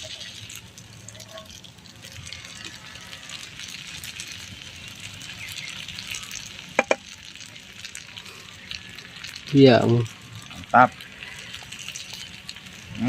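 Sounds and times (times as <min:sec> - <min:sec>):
food sizzling as it fries: 0:00.0 - 0:13.0.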